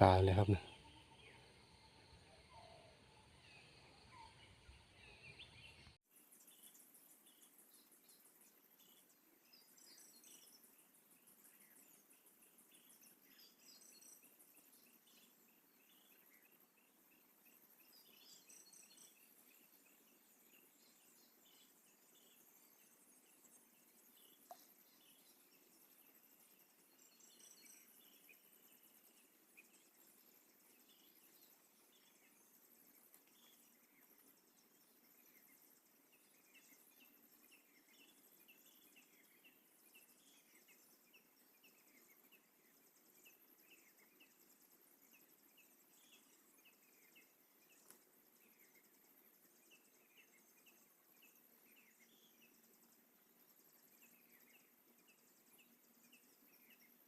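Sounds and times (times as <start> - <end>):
small bird chirping: 0.0 - 57.0.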